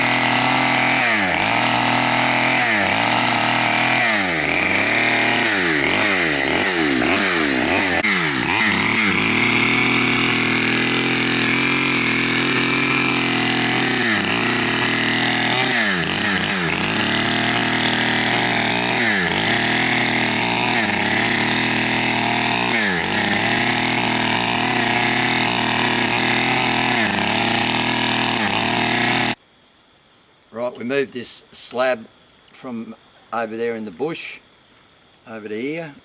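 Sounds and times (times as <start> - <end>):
chainsaw cutting log: 0.0 - 29.4.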